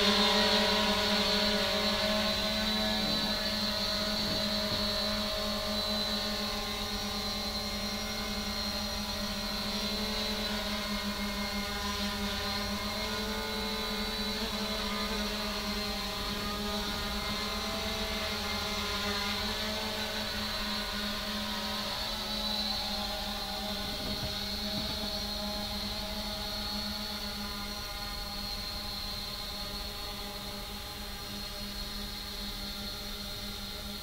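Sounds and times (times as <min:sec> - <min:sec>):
drone propellers buzzing: 0:00.0 - 0:34.0.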